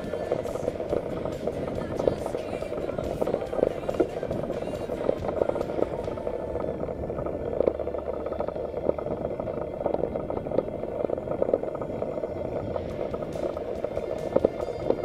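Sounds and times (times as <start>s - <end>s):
bike rattling with knocks: 0.0s - 15.0s.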